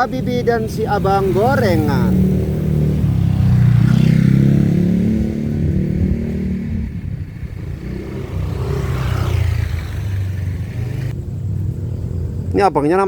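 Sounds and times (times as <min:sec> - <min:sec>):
motor vehicles passing: 0:00.0 - 0:13.0.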